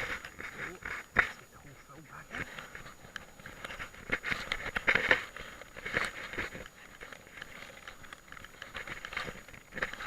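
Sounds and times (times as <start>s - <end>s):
wet soil crunching and scraping: 0.0s - 10.0s.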